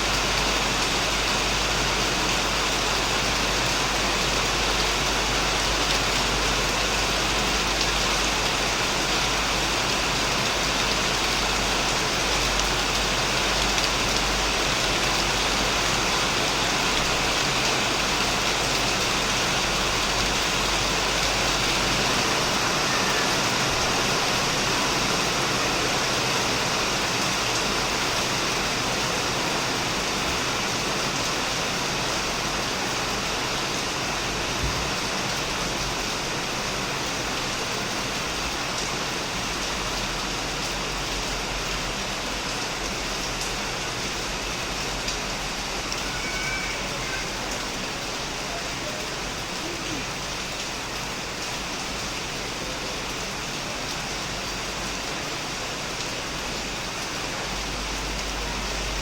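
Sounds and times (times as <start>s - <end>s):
heavy rain on a shed roof: 0.0s - 59.0s.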